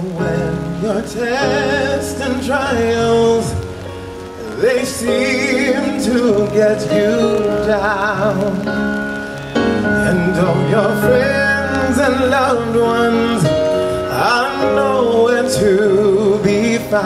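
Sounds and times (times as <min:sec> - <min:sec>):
gospel choir singing: 0:00.0 - 0:03.8, 0:04.4 - 0:08.9, 0:10.0 - 0:17.0
lead voice singing with vibrato: 0:00.0 - 0:09.1, 0:09.8 - 0:17.0.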